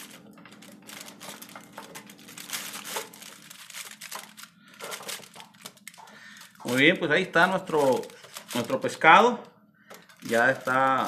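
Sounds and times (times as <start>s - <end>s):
aluminium foil crinkling: 0.0s - 11.0s
wire clicks and scrapes on racks: 0.0s - 11.0s.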